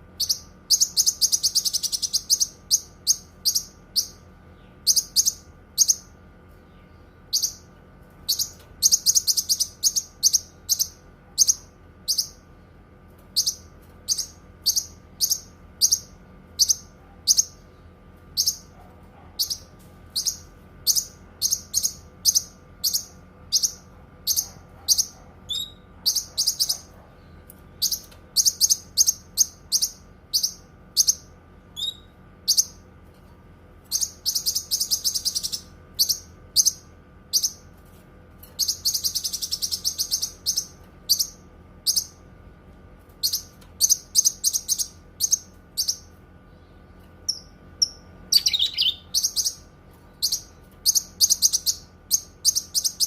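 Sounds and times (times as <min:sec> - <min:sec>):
bird chirping: 0:00.2 - 0:07.7, 0:08.3 - 0:12.4, 0:13.3 - 0:17.6, 0:18.4 - 0:18.7, 0:19.4 - 0:32.8, 0:33.9 - 0:37.6, 0:38.6 - 0:42.2, 0:43.2 - 0:53.0.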